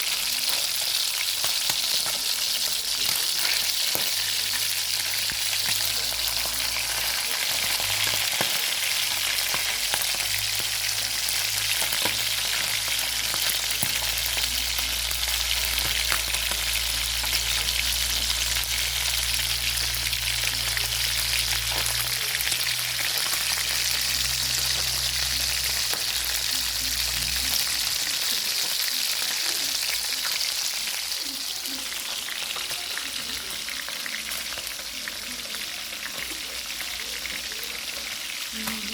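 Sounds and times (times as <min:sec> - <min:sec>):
chicken frying in hot oil: 0:00.0 - 0:38.9.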